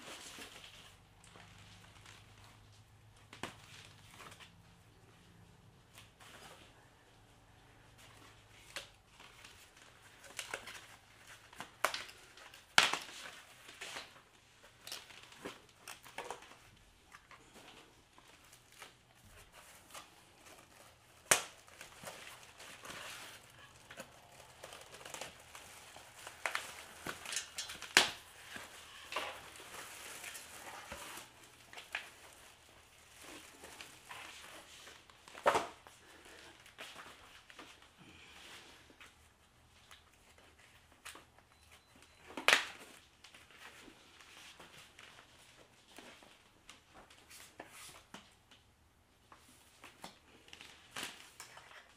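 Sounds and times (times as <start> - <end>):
packaging rustling and crinkling: 0.0 - 4.8, 8.0 - 51.9.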